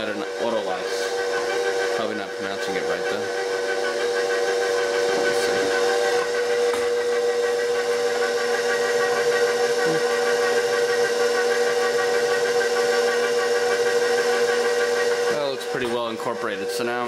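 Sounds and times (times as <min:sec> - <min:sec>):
stand mixer motor whine: 0:00.0 - 0:17.0.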